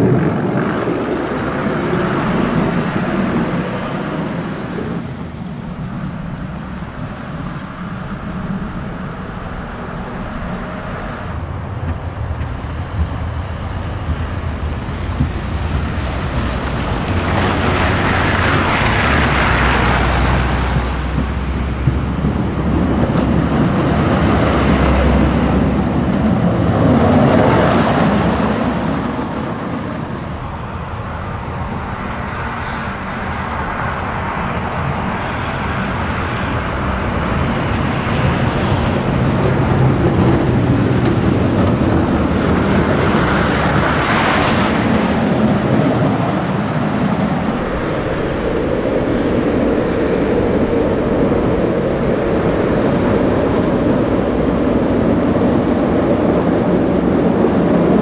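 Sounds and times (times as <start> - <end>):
diesel engine drone: 0.0 - 58.0
snowplow blade pushing snow: 0.0 - 58.0
tyres rushing through slush: 0.0 - 58.0.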